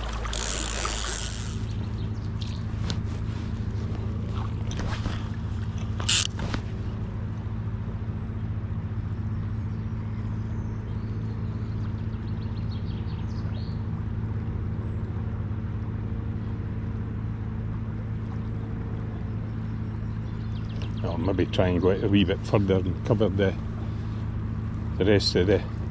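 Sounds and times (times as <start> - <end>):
low engine drone: 0.0 - 25.9.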